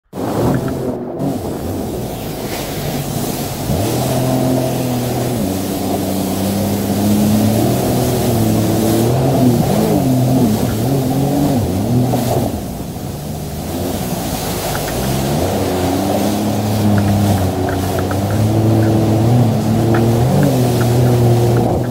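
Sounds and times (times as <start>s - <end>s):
jet ski engine revving: 0.0s - 21.9s
water spray rushing: 0.1s - 21.9s.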